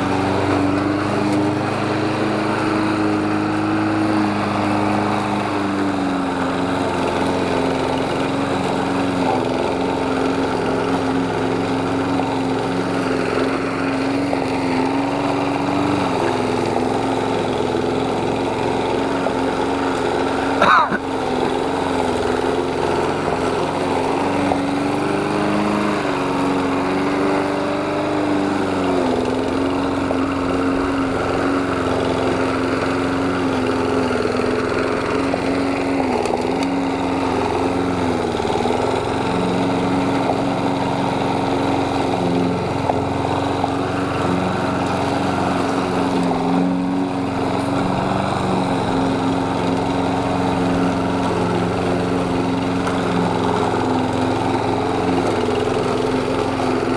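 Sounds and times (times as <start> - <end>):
lawn mower cutting grass: 0.0 - 56.9.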